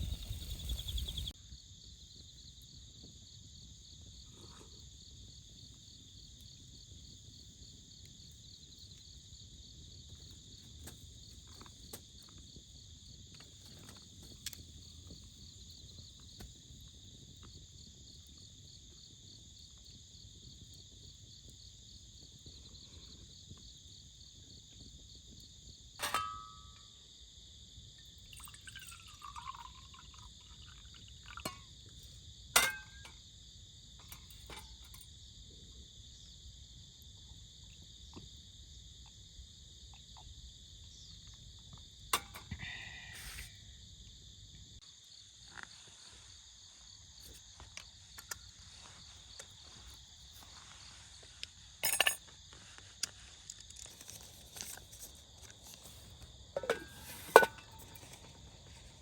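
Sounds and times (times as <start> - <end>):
crickets and night insects trilling: 0.0 - 59.0.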